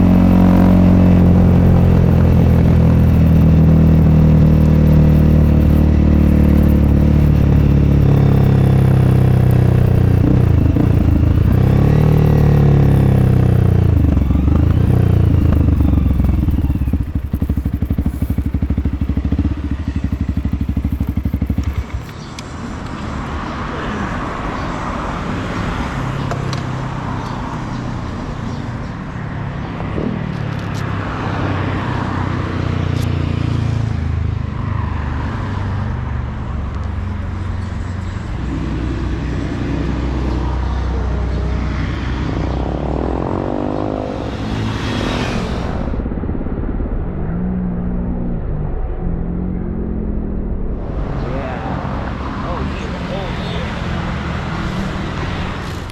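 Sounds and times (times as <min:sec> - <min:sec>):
motorcycle engine revving and idling: 0:00.0 - 0:22.8, 0:25.4 - 0:46.2, 0:49.3 - 0:55.9
traffic noise: 0:00.0 - 0:46.0, 0:50.7 - 0:55.9.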